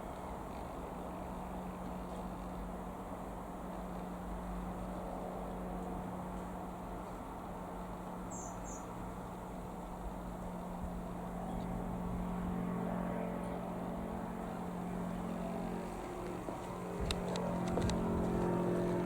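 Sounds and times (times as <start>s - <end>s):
light aircraft engine running: 0.0s - 19.0s.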